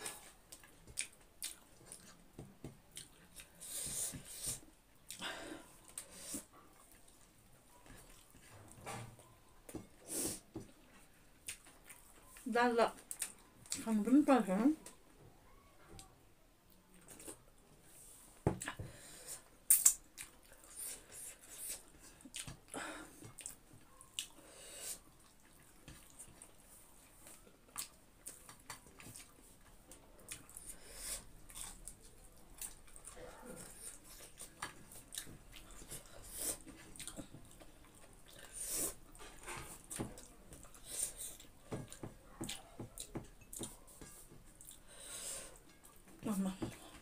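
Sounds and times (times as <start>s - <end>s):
chewing with mouth smacks: 0.0s - 10.0s, 10.6s - 13.8s, 16.7s - 17.7s, 19.4s - 44.9s.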